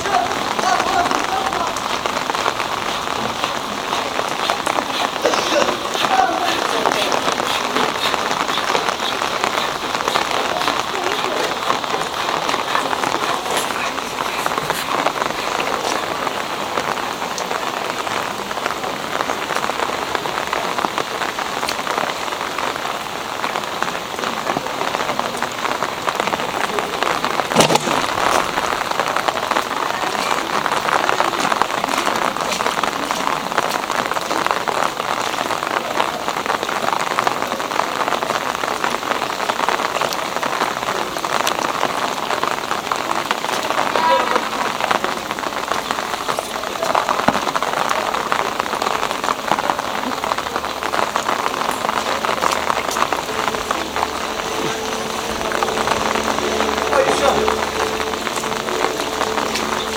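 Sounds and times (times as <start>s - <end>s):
rain falling on a street: 0.0s - 59.9s.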